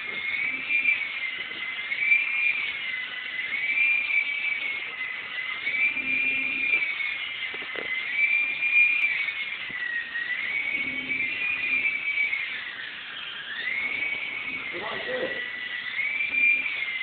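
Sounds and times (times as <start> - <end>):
toy helicopter motor whining: 0.0 - 17.0.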